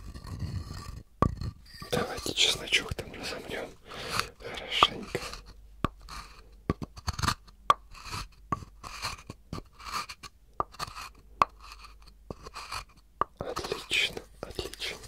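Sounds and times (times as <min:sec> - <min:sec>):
wooden spoon scraping: 0:00.0 - 0:15.0.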